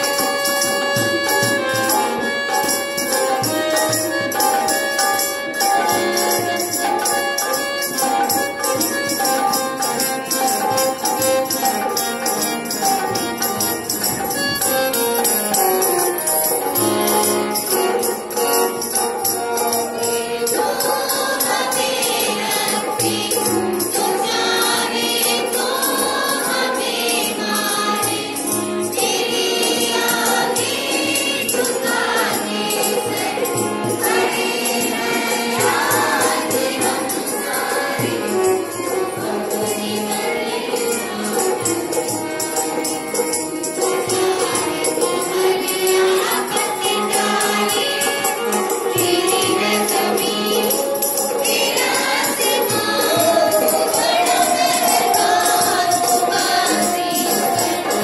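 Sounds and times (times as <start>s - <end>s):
children singing through microphone: 0.0s - 58.0s
jingling percussion: 0.0s - 58.0s.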